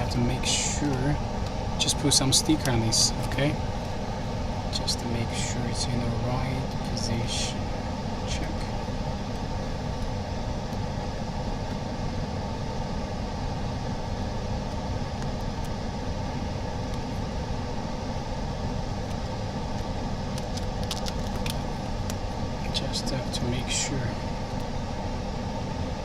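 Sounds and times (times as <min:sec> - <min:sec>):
workshop equipment humming: 0:00.0 - 0:26.0.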